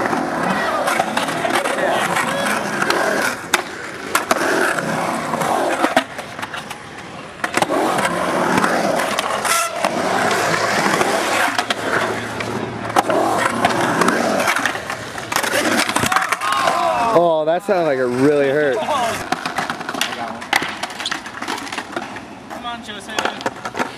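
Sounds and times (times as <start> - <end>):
skateboard clacking on coping: 0.0 - 23.9
skateboard wheels rolling on concrete: 0.0 - 23.9.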